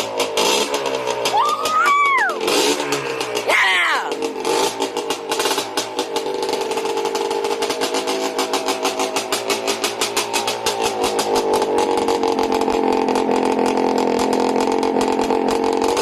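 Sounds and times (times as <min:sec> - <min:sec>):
two-stroke engine running: 0:00.0 - 0:16.0.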